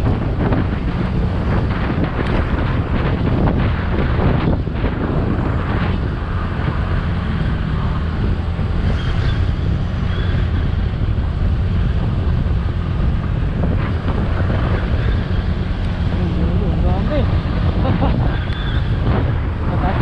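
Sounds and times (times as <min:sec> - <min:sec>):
motorcycle engine and tyres droning: 0:00.0 - 0:20.0
wind buffeting microphone: 0:00.0 - 0:20.0.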